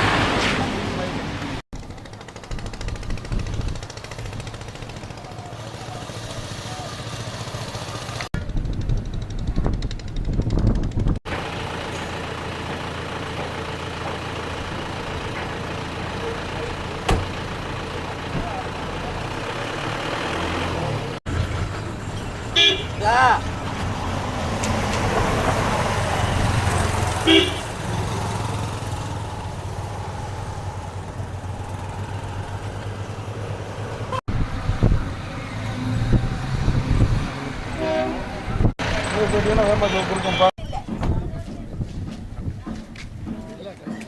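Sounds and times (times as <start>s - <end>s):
heavy vehicle engine running: 0.0s - 41.5s
road traffic noise: 0.0s - 44.0s.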